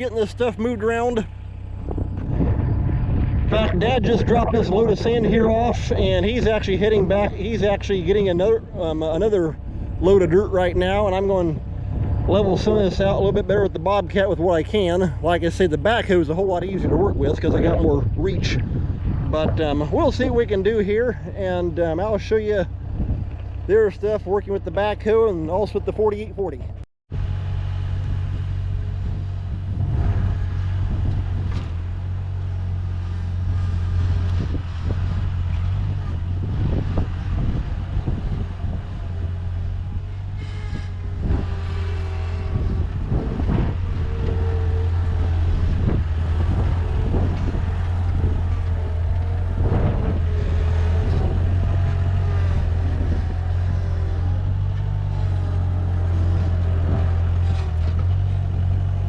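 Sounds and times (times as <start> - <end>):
skid-steer loader engine running: 0.0 - 59.0.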